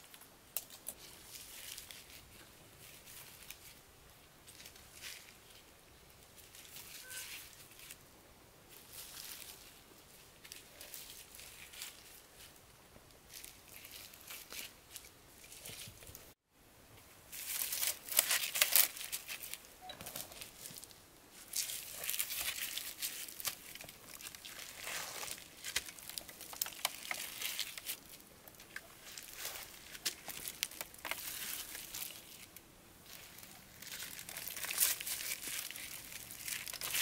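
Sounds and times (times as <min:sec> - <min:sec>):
crinkling and rustling: 0:00.0 - 0:08.0, 0:08.7 - 0:16.4, 0:17.3 - 0:37.0.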